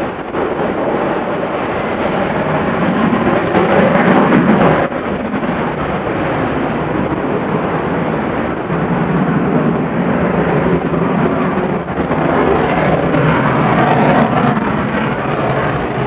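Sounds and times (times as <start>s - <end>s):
loud jet engine noise: 0.0s - 16.0s.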